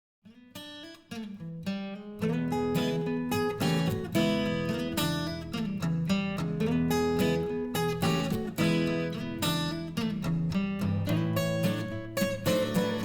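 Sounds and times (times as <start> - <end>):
strummed acoustic guitar: 0.3 - 13.0.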